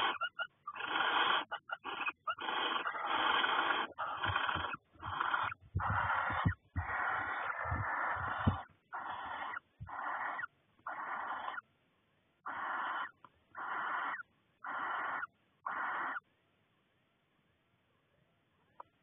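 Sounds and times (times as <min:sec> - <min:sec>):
owl wheezy hissing calls: 0:00.0 - 0:11.7, 0:12.4 - 0:16.3.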